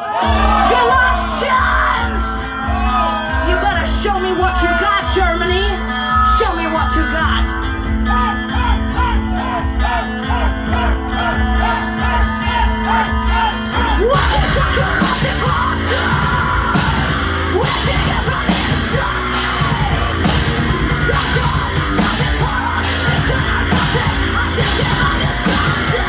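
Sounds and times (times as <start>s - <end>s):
heavy metal music: 0.0s - 26.0s.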